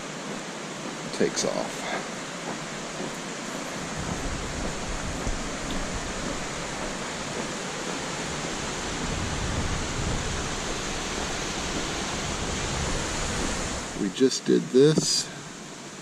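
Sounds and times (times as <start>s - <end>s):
rushing river water: 0.0s - 16.0s.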